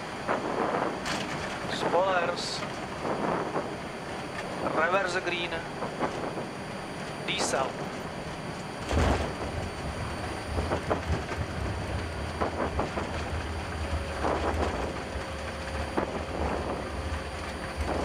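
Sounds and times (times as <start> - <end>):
deep rumble of engines and wheels: 0.0 - 18.0.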